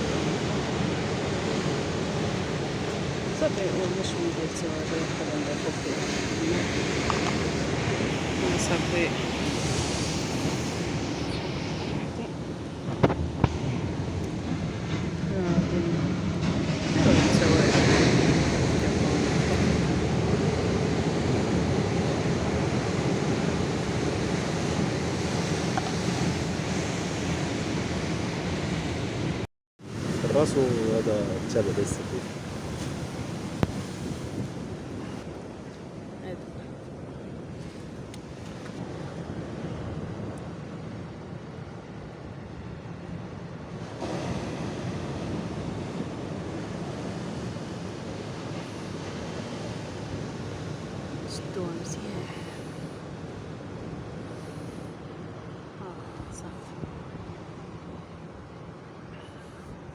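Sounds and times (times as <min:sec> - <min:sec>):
wind on microphone: 0:00.0 - 0:58.3
sea waves washing onto shore: 0:00.0 - 0:59.9.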